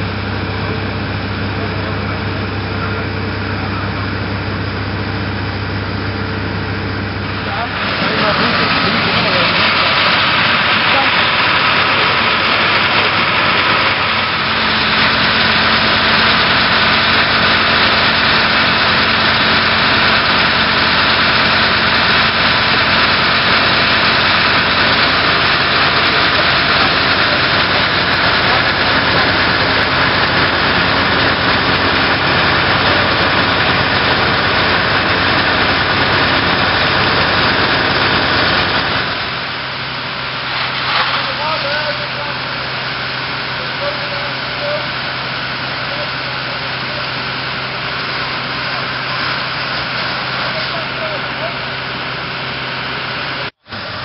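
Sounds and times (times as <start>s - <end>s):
fire engine droning: 0.0s - 54.0s.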